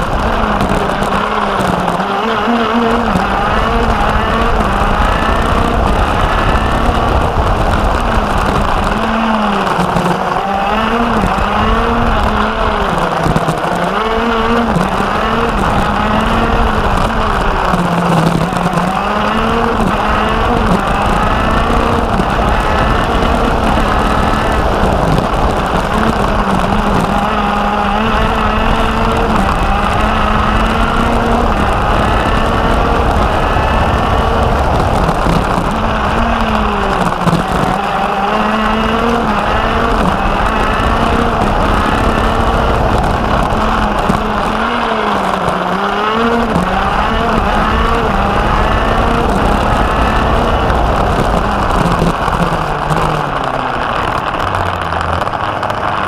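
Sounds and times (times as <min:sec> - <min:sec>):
go-kart engine at high revs: 0:00.0 - 0:56.0.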